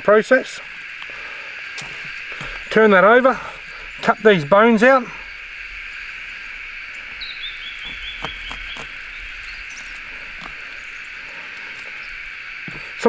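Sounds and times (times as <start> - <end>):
high-pitched animal chorus: 0.0 - 13.0.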